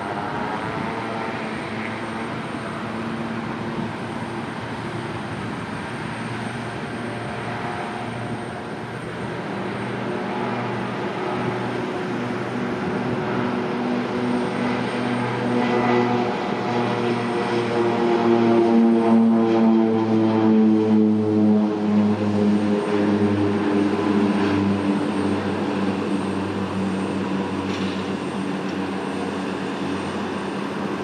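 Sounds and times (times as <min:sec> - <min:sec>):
turboprop propeller drone: 0:00.0 - 0:31.0.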